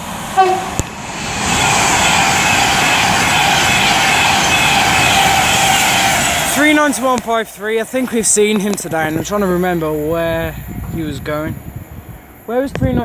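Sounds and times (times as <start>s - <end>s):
train rushing past at speed: 0.0s - 12.5s.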